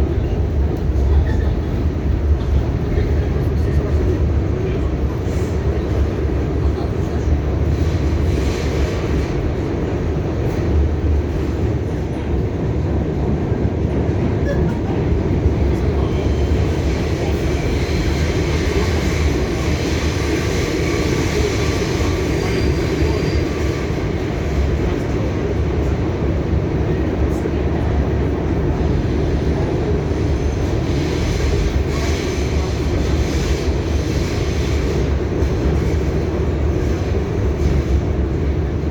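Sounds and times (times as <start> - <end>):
subway train rumbling: 0.0 - 38.9.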